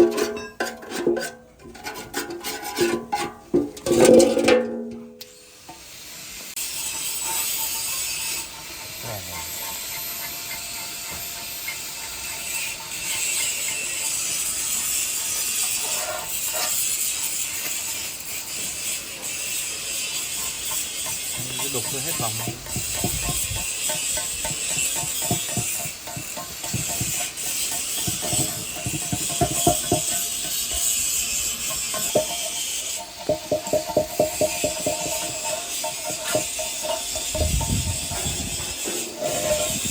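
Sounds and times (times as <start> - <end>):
tool scraping metal: 0.0 - 39.9.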